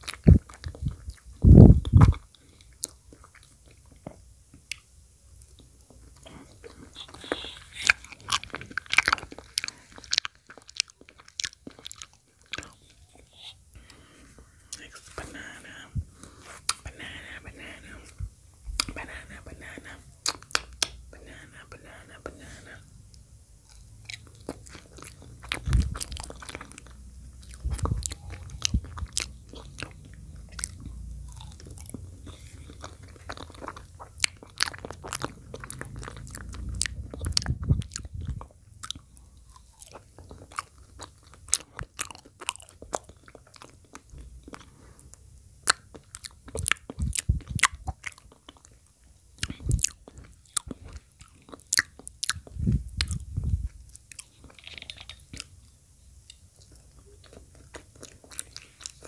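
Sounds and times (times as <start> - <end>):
wet mouth chewing sounds: 0.0 - 59.0.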